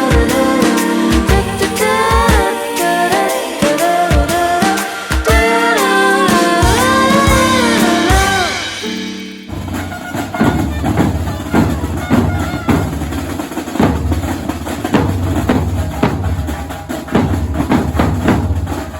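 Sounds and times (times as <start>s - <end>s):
group of drums playing: 0.0s - 18.9s.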